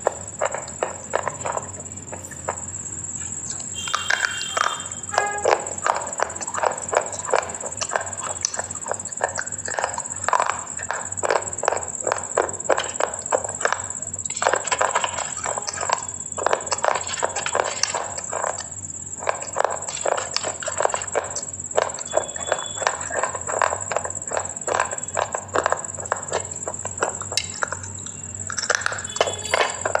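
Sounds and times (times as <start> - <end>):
crunchy chewing: 0.0 - 30.0.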